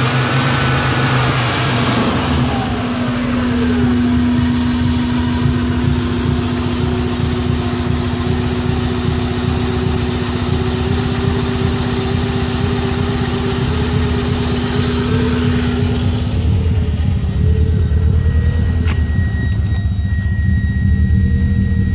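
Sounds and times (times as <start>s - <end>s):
car engine idling with misfire: 0.0s - 21.9s
steady whine: 0.0s - 21.9s.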